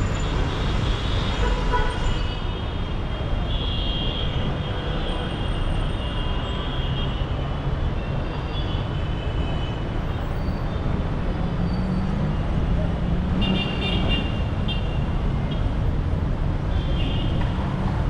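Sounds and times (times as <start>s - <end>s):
tyre noise of passing cars: 0.0s - 18.0s.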